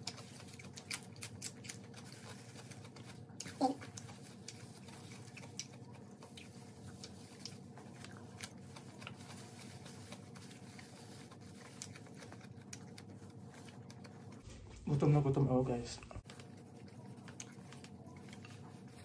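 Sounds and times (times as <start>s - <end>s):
chewing: 0.0s - 14.8s, 16.0s - 19.0s.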